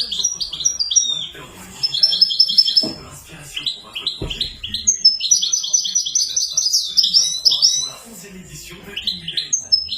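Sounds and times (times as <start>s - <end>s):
finch singing high chirps: 0.0s - 8.1s, 8.7s - 9.9s.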